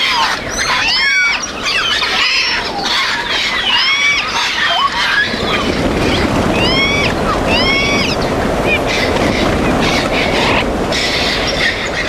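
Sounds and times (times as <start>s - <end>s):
parrots chirping and whistling: 0.0s - 10.6s.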